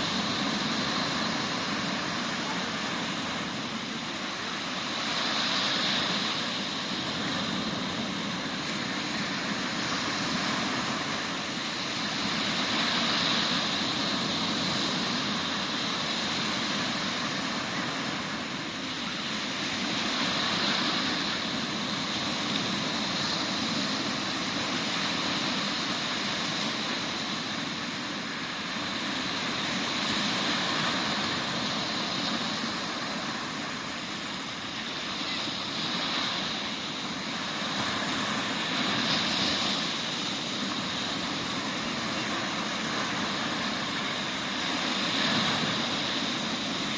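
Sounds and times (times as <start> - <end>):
waves breaking on shore: 0.0 - 46.9.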